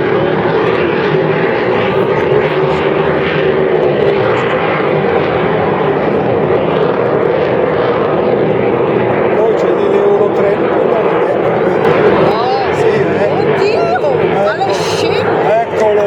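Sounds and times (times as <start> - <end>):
jet engine noise overhead: 0.0 - 16.0.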